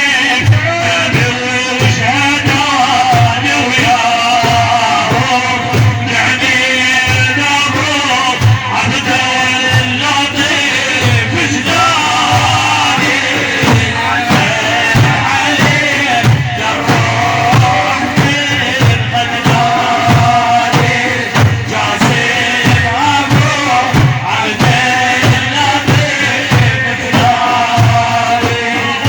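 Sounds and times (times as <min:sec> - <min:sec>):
melodic religious music: 0:00.0 - 0:29.0
steady drum beat: 0:00.0 - 0:29.0.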